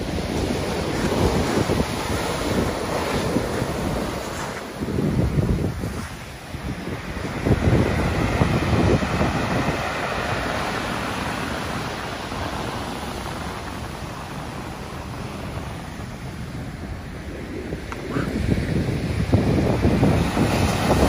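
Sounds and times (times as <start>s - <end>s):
surf breaking on sand beach: 0.0s - 21.0s
wind buffeting microphone: 0.0s - 21.0s.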